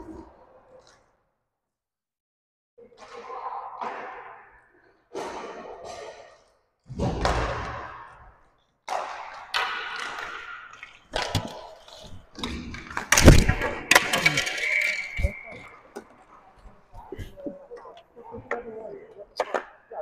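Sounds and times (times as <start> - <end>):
hockey sticks and puck clacking: 2.9 - 20.0.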